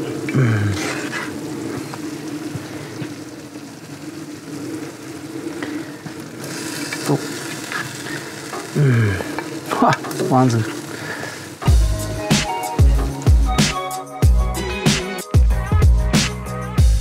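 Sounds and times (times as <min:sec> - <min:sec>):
curry bubbling and hissing: 0:00.0 - 0:14.4.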